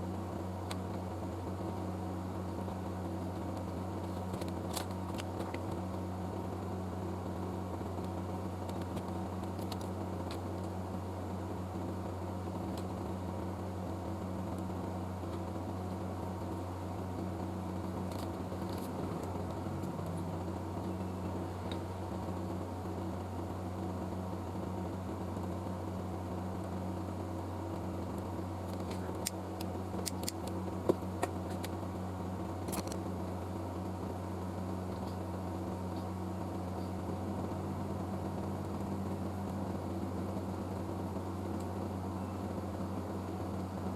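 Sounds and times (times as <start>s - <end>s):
low electrical hum: 0.0s - 43.9s.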